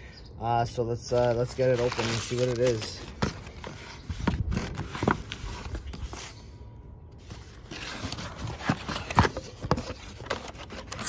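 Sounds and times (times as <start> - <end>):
cardboard box being opened: 1.1 - 6.3, 7.2 - 11.0.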